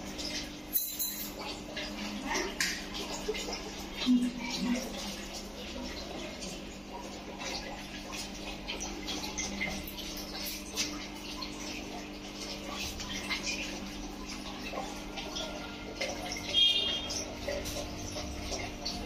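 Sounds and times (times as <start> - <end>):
drips and splashes: 0.0 - 19.0
water trickling and bubbling: 0.0 - 19.0.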